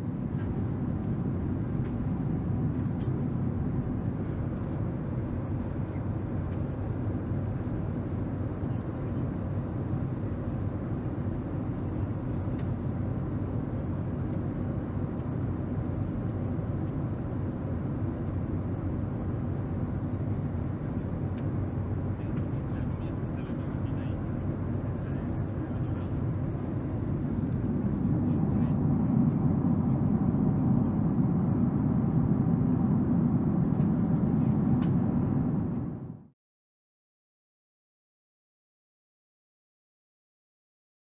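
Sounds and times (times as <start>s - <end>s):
jet airliner cabin rumble: 0.0s - 36.4s.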